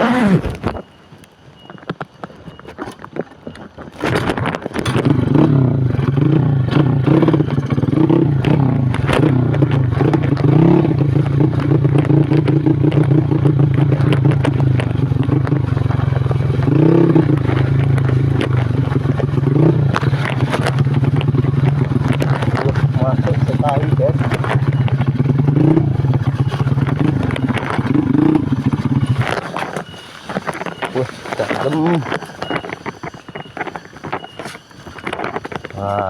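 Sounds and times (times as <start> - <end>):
motorcycle engine revving: 0.0 - 0.8, 4.0 - 36.0
bike clattering over rough ground: 1.9 - 36.0.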